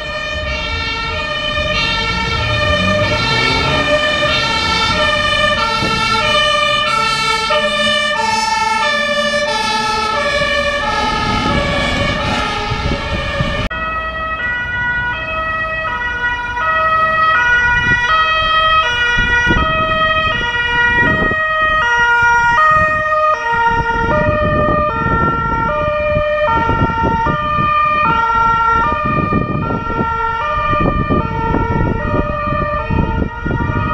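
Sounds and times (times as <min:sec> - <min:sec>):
traffic noise: 0:00.0 - 0:33.9
two-tone siren: 0:00.0 - 0:33.9.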